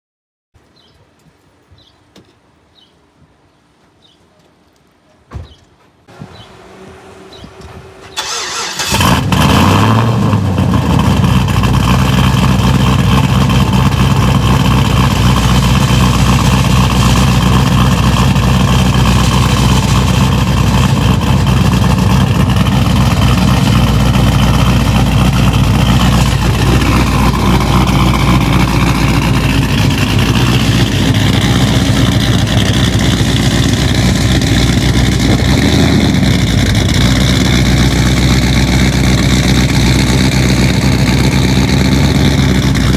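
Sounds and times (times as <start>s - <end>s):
car engine starting and idling: 6.0s - 42.9s.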